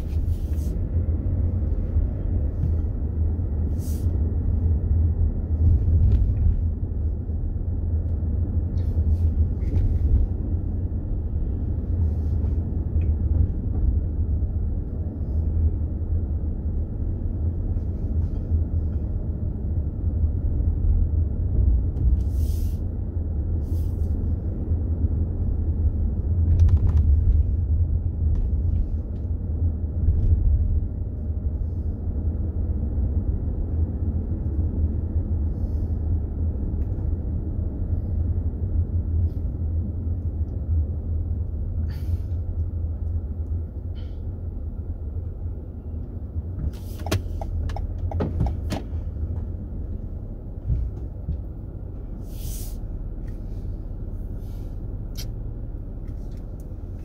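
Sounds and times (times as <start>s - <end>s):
car cabin rumble: 0.0s - 57.0s.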